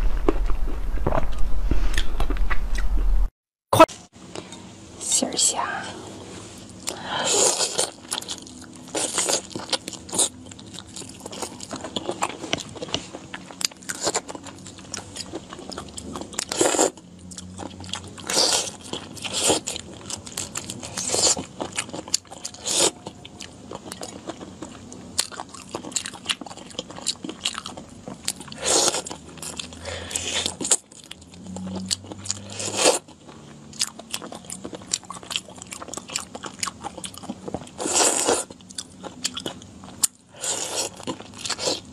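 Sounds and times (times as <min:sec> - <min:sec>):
chewing and sucking: 0:06.8 - 0:41.9.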